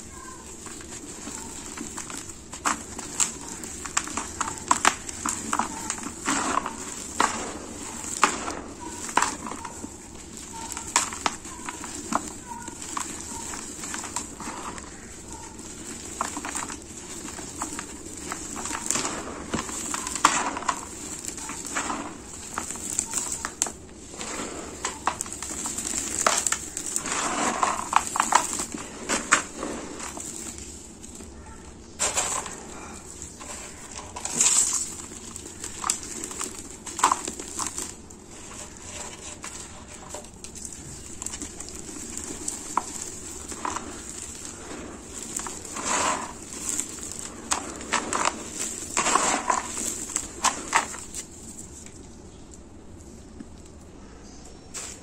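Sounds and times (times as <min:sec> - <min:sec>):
grit falling into plastic tub: 0:00.0 - 0:53.7, 0:54.7 - 0:55.0
cement clumps crumbling and crunching: 0:00.0 - 0:55.0.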